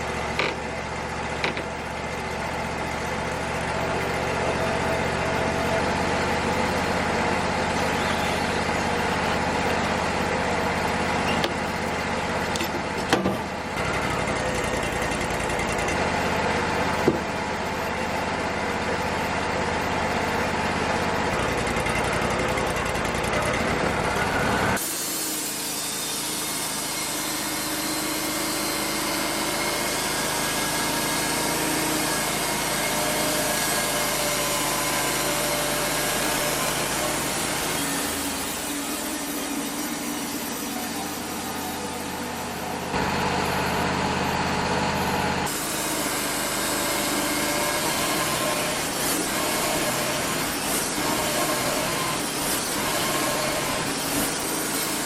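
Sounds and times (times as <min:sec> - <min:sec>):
band sawmill cutting wood: 0:00.0 - 0:55.0.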